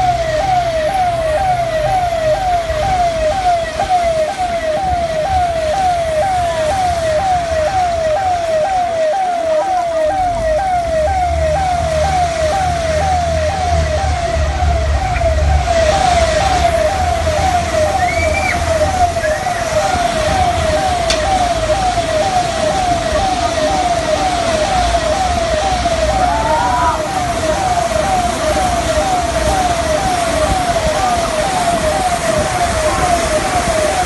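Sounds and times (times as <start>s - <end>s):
siren wailing: 0.0s - 34.0s.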